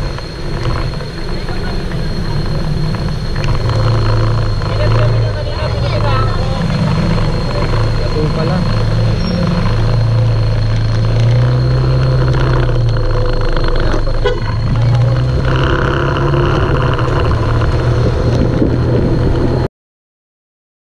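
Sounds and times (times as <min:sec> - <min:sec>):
motorcycle engine running: 0:00.0 - 0:19.7
road and wind rumble: 0:00.0 - 0:19.7.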